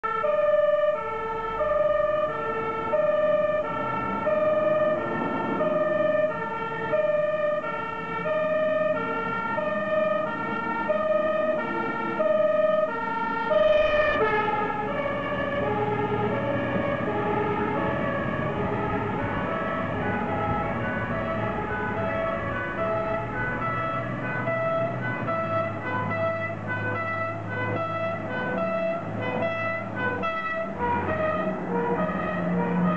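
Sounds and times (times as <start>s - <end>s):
truck engine noise: 0.0s - 32.9s
two-tone fire engine siren: 0.0s - 32.9s.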